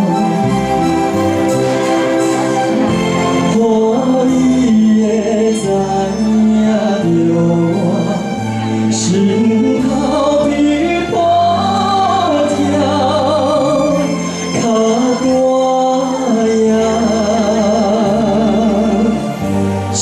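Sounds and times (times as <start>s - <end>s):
man singing into a microphone: 0.0s - 0.6s, 3.4s - 20.0s
instrumental backing track: 0.0s - 20.0s.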